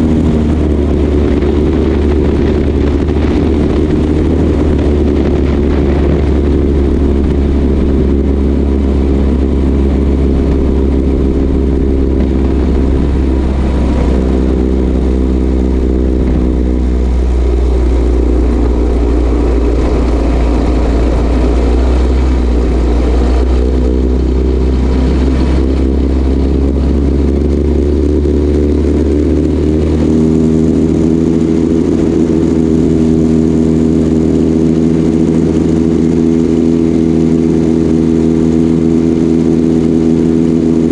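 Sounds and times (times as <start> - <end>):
single-cylinder engine running: 0.0 - 40.9.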